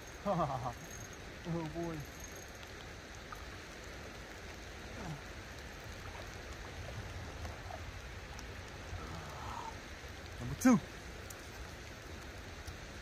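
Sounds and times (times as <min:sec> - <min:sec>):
light rain on river: 0:00.0 - 0:13.0.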